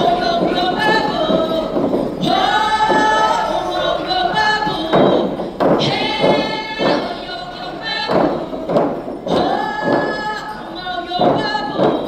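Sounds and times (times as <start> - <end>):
group chanting: 0.0 - 12.0
loud thuds: 0.0 - 12.0.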